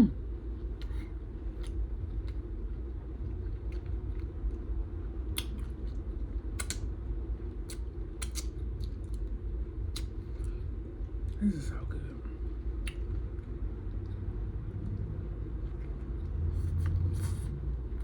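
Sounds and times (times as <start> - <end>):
steady low hum: 0.0 - 18.0
chewing with wet mouth smacks: 0.4 - 11.4, 12.4 - 18.0.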